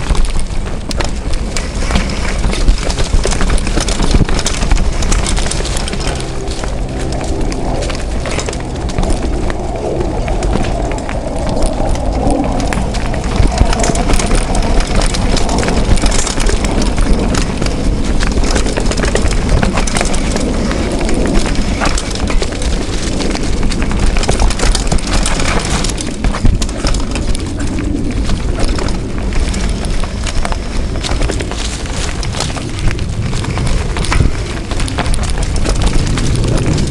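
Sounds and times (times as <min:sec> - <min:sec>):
mountain bike rattling on dirt trail: 0:00.0 - 0:36.9.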